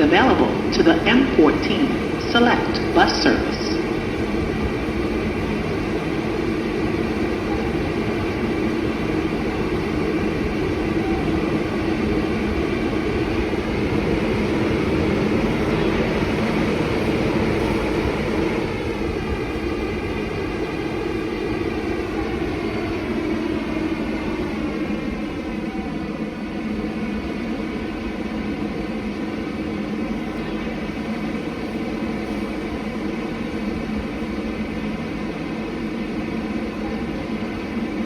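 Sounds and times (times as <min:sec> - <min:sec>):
subway train pulling out: 0:00.0 - 0:38.0.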